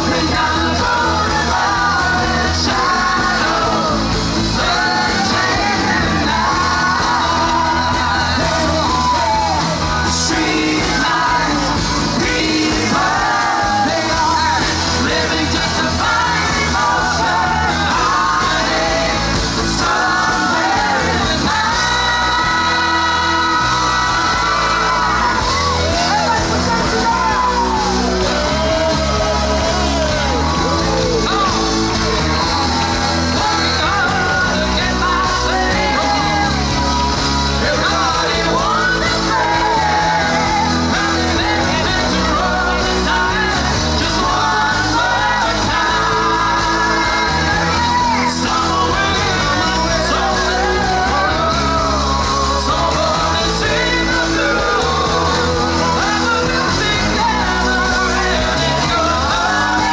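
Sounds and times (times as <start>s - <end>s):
band music with singer: 0.0s - 59.9s
bass line: 0.0s - 59.9s.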